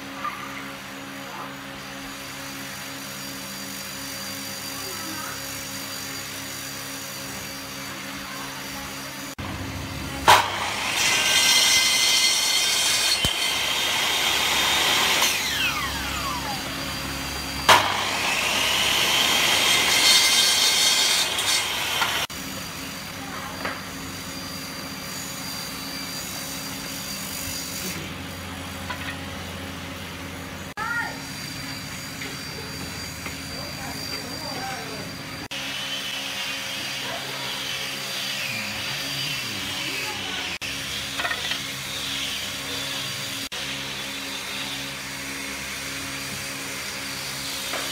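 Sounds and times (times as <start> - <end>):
miter saw cutting wood: 1.0 - 47.9
saw blade winding down: 2.0 - 29.7, 30.8 - 47.9.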